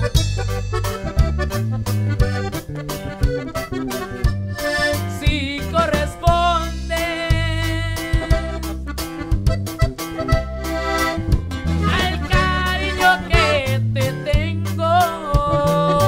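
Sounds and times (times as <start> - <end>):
accordion melody: 0.0 - 16.0
deep bass line: 0.0 - 16.0
strummed guitar: 0.0 - 16.0.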